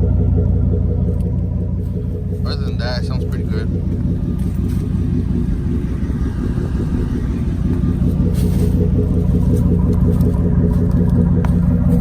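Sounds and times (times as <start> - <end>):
car engine idling deeply: 0.0 - 12.0.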